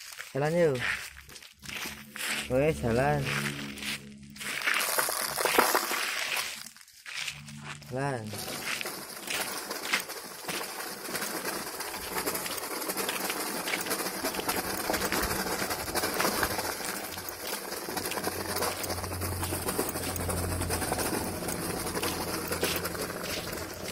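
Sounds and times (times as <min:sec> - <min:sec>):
toy truck rattling over gravel: 0:00.0 - 0:23.9.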